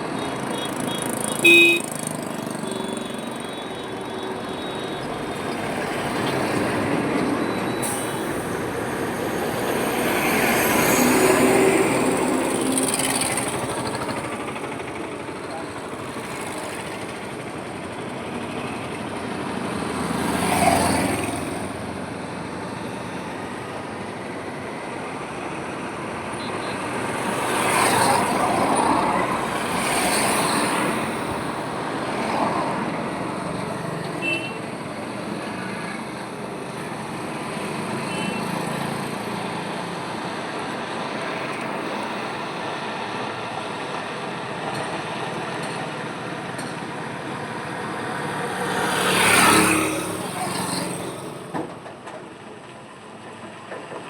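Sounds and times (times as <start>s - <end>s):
vehicles passing close: 0.0s - 23.8s, 25.1s - 53.4s
highway traffic noise: 0.0s - 54.0s.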